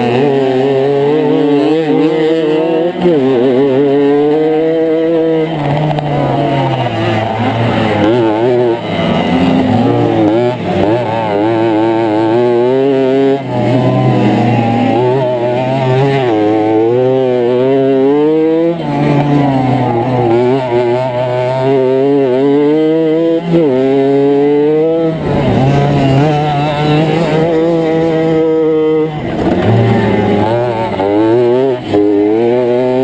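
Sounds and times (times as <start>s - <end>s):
moped engine revving: 0.0s - 33.0s.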